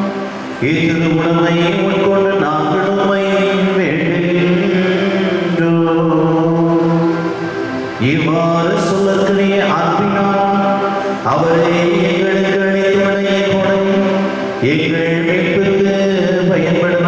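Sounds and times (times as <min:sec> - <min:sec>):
man chanting a sung prayer: 0:00.6 - 0:07.3, 0:08.0 - 0:17.0.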